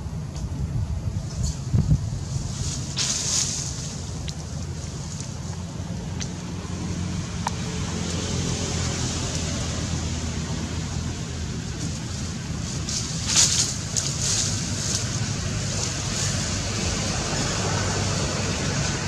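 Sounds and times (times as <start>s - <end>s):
wind: 0.0s - 19.0s
water noise: 1.0s - 19.0s
boat engine running: 2.0s - 19.0s.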